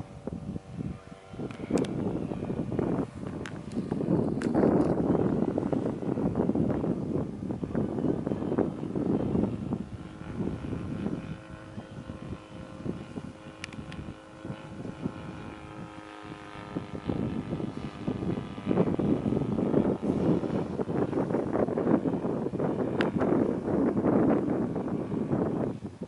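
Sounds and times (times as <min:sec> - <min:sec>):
model aircraft engine running: 0:00.0 - 0:26.0
wind buffeting microphone: 0:00.0 - 0:26.0.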